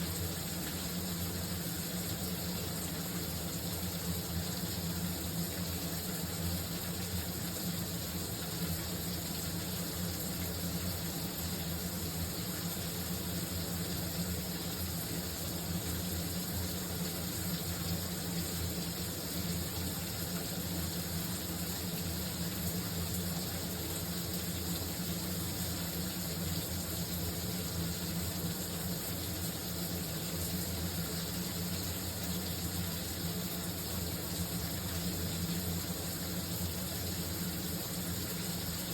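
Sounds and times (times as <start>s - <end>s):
shower water running: 0.0s - 38.9s.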